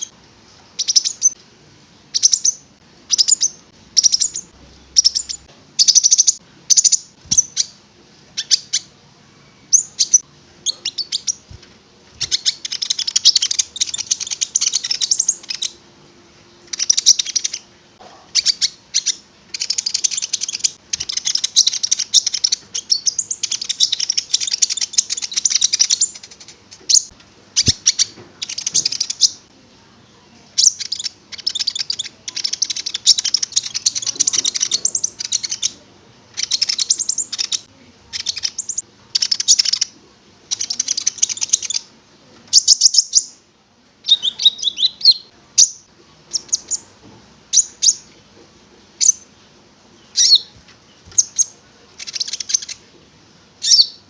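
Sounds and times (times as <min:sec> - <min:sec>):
bird chattering song: 0:00.8 - 0:01.4, 0:02.1 - 0:08.9, 0:09.5 - 0:11.6, 0:12.2 - 0:15.8, 0:16.6 - 0:29.5, 0:30.6 - 0:41.9, 0:42.5 - 0:43.4, 0:44.0 - 0:46.9, 0:47.5 - 0:48.1, 0:50.0 - 0:52.8, 0:53.6 - 0:54.0.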